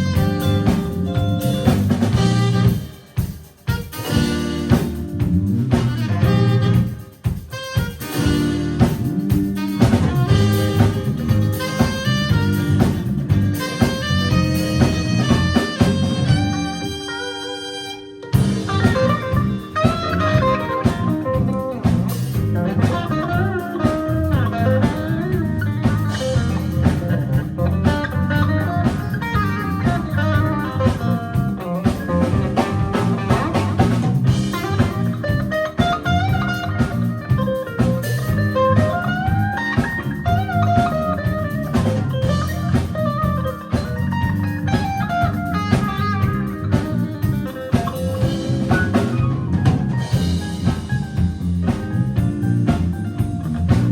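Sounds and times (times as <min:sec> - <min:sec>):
steady low bass: 0:00.0 - 0:03.0, 0:04.1 - 0:07.0, 0:08.2 - 0:17.0, 0:18.4 - 0:53.9
drum kit: 0:00.0 - 0:53.9
pitch-bending melody line: 0:08.1 - 0:53.9.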